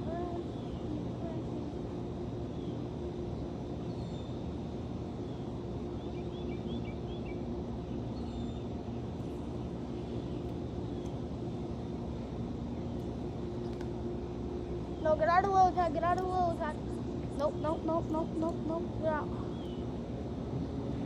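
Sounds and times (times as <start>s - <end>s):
faint droning hum: 0.0s - 21.0s
outdoor background rumble: 0.0s - 21.0s.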